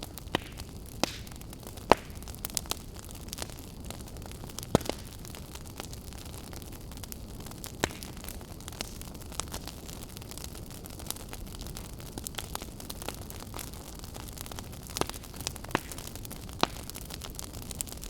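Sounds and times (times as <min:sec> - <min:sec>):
campfire crackling with pops: 0:00.0 - 0:18.0.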